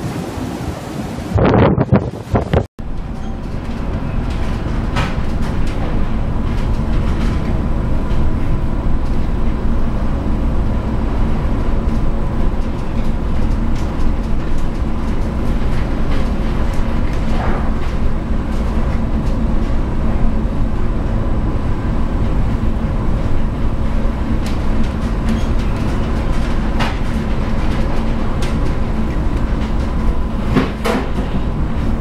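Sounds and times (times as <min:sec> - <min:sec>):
low ship rumble: 0:00.0 - 0:32.0
wind and sea noise: 0:00.0 - 0:32.0
faint machinery hum: 0:02.8 - 0:32.0.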